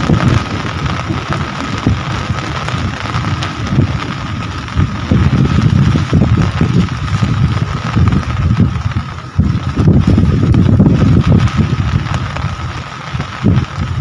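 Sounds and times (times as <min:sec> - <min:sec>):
rain hiss: 0:00.0 - 0:14.0
wind buffeting microphone: 0:00.0 - 0:14.0.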